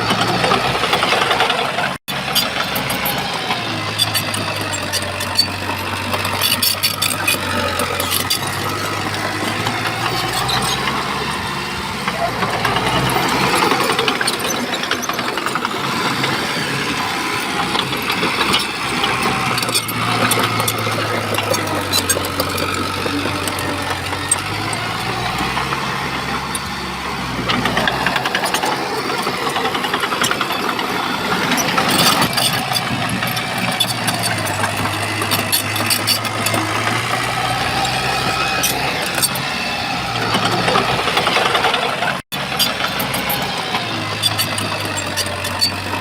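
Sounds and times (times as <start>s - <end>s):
bulldozer diesel engine working: 0.0s - 46.0s.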